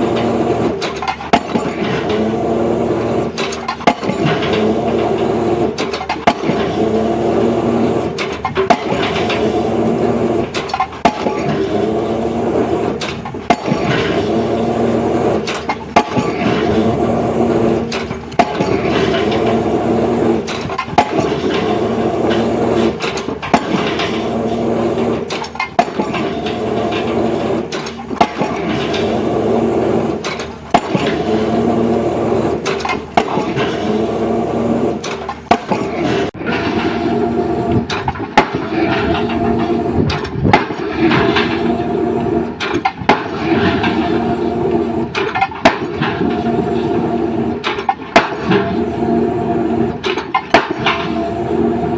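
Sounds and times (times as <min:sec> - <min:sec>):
pile driver engine running: 0:00.0 - 0:51.9.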